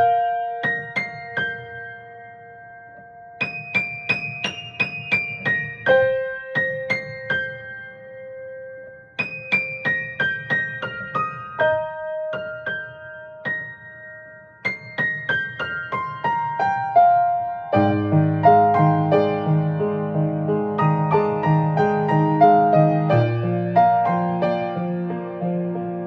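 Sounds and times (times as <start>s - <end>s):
solo piano melody: 0.0s - 26.0s.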